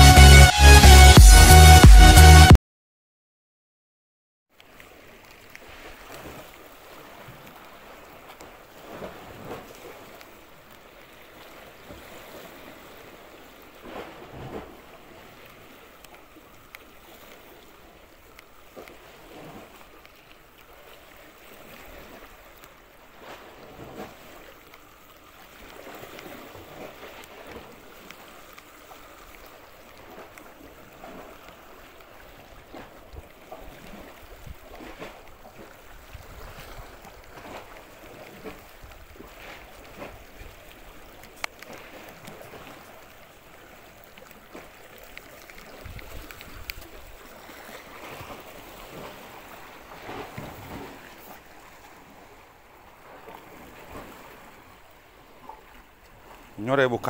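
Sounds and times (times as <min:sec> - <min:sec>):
sea waves washing on shore: 0:04.5 - 0:57.0.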